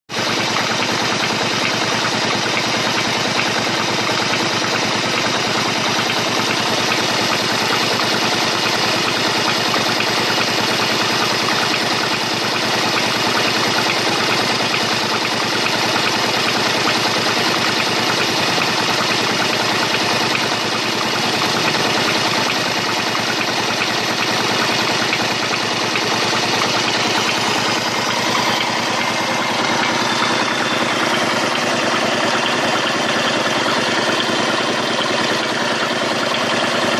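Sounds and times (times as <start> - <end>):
engine idling with clatter: 0.1 - 36.9.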